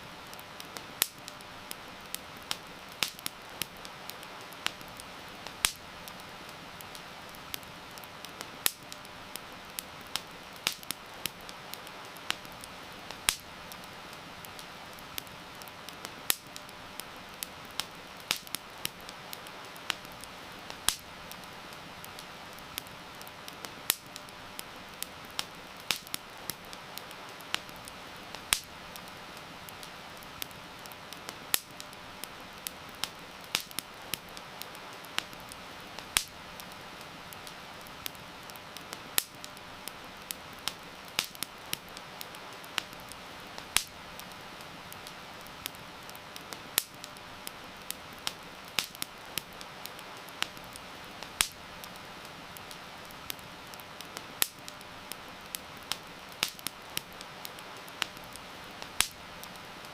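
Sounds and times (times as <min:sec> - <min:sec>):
campfire crackling and popping: 0:00.0 - 0:59.9
heavy rain hiss: 0:00.0 - 0:59.9.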